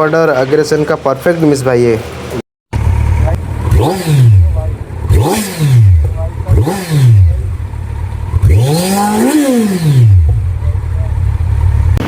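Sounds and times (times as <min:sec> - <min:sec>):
motorcycle engine revving: 0:02.1 - 0:12.0.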